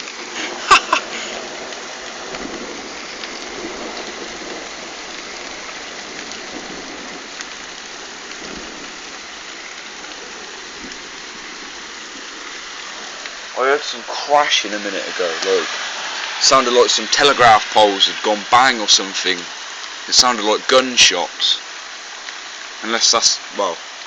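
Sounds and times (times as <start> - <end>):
heavy hail pelting: 0.0 - 24.0.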